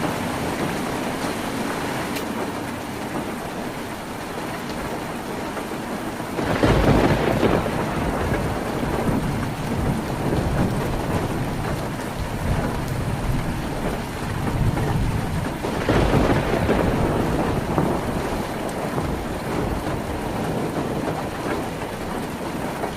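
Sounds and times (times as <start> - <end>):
heavy rain on a tin roof: 0.0 - 22.9.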